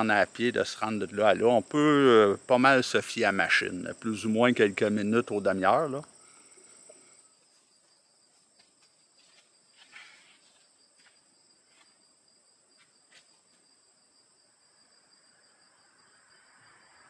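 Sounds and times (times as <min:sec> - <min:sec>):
faint insects chirring: 0:00.0 - 0:17.0.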